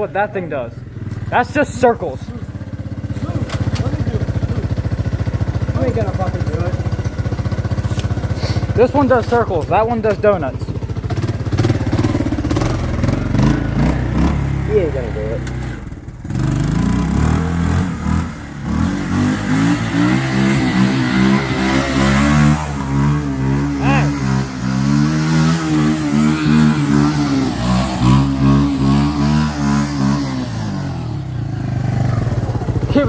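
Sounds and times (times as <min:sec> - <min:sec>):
atv engine revving hard: 0:01.0 - 0:33.0.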